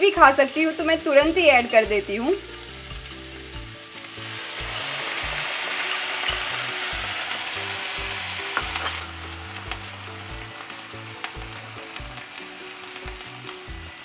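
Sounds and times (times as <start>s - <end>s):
food sizzling in a frying pan: 0.0s - 14.0s
soft music with bass line: 0.0s - 14.0s.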